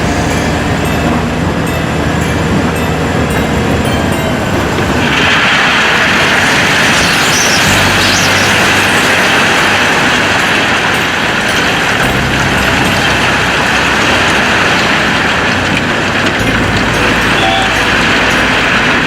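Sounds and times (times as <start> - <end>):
vehicle rumble with rushing hiss: 0.0 - 19.0.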